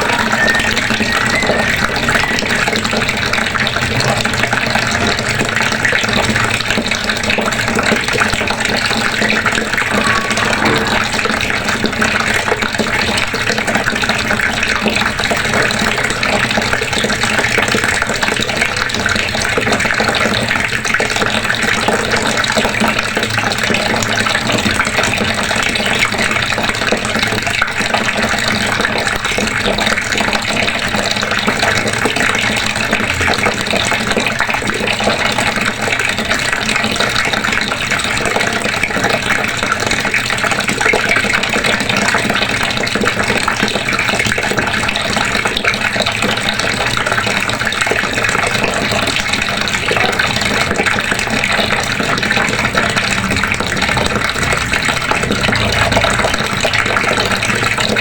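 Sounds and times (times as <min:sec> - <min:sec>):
water running from a faucet: 0:00.0 - 0:58.0.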